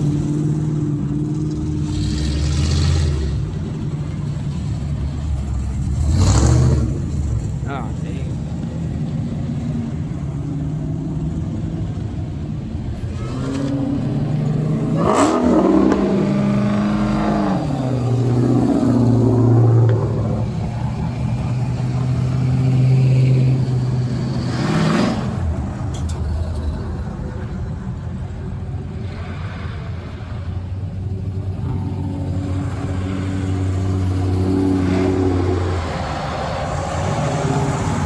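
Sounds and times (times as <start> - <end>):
car engine revving: 0.0 - 38.0
lower engine sound: 0.0 - 38.0.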